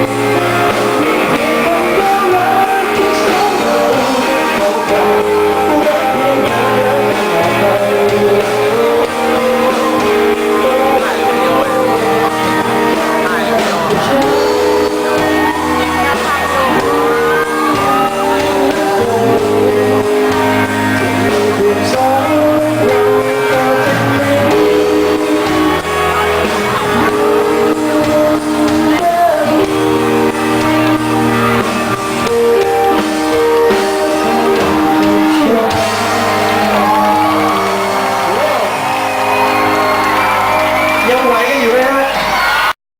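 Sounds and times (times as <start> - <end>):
person singing: 0.0 - 42.2
live band playing: 0.0 - 42.7
guitar: 0.0 - 42.8.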